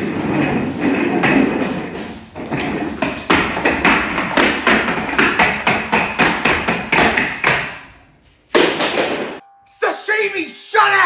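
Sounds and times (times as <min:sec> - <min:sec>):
rapid loud thuds: 0:00.0 - 0:09.4.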